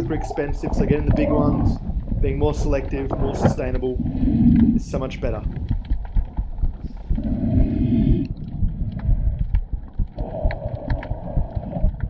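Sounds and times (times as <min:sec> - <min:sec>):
small clicks and crackles: 0:00.0 - 0:07.2, 0:08.2 - 0:12.0
water rushing underwater: 0:00.0 - 0:12.0.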